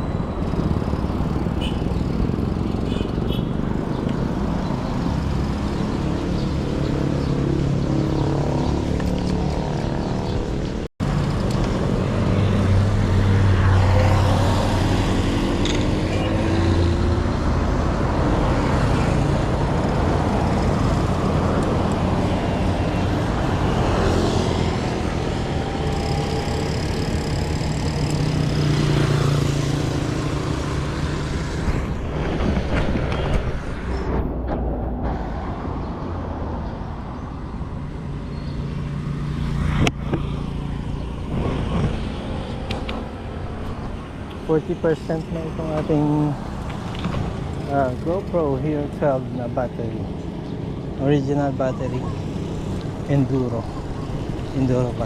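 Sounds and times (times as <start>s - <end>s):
steady road noise: 0.0s - 55.0s
vehicles passing close by: 0.0s - 55.0s.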